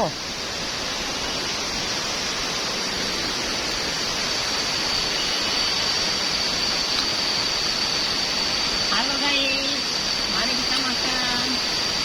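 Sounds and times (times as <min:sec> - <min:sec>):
high steady whine: 0:00.0 - 0:12.0
waterfall rushing: 0:00.0 - 0:12.0.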